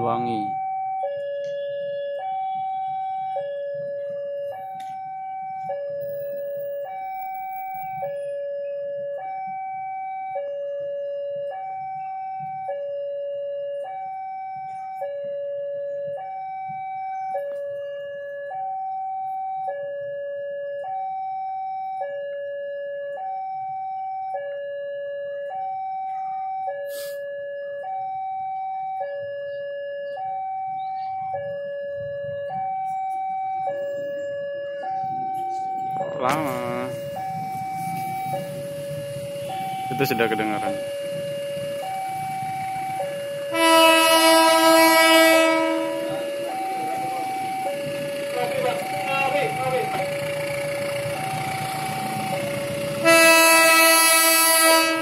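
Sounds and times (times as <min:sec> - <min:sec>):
level crossing two-tone alarm: 0:00.0 - 0:55.0.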